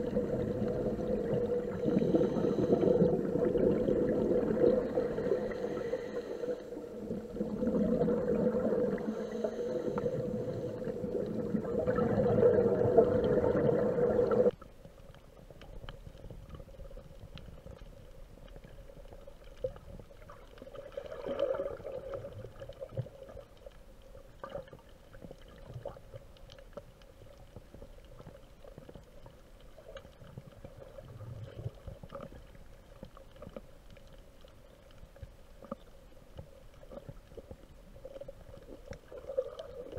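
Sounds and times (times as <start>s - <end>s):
faint underwater clicks: 0.0s - 39.9s
muffled underwater bubbling rumble: 0.0s - 39.9s.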